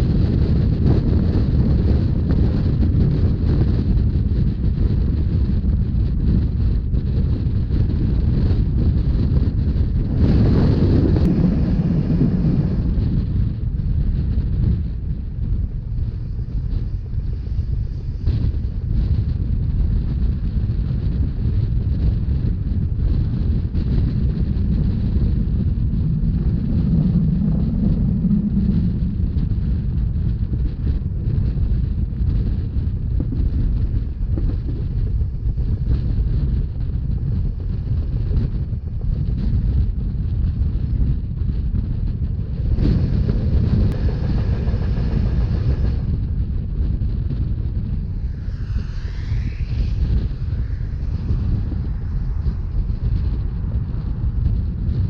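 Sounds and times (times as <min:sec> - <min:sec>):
low hum: 0:00.0 - 0:55.0
train rumble: 0:00.0 - 0:55.0
wind buffeting microphone: 0:00.0 - 0:55.0.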